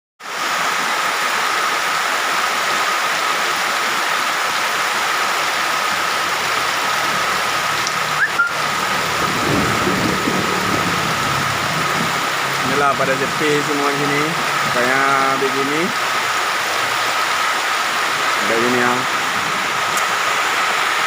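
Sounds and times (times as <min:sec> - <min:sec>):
rain falling: 0:00.2 - 0:21.0.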